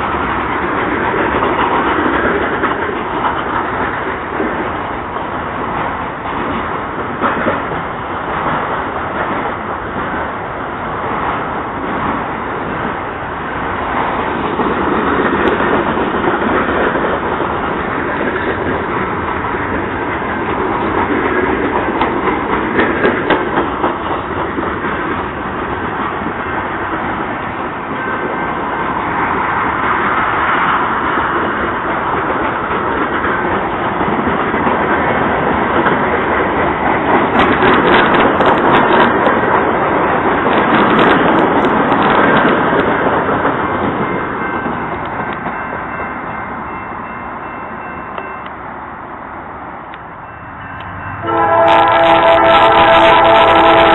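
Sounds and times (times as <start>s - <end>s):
wheels clicking over rail joints: 0.0s - 48.6s
train wheels rumbling on rail: 0.0s - 53.9s.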